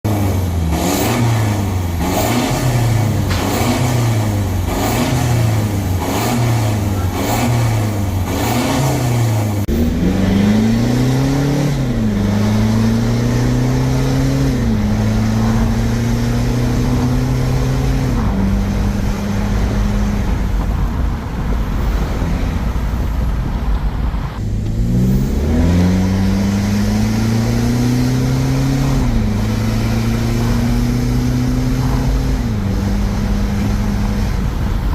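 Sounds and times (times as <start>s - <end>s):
diesel engine revving and accelerating: 0.0s - 34.9s.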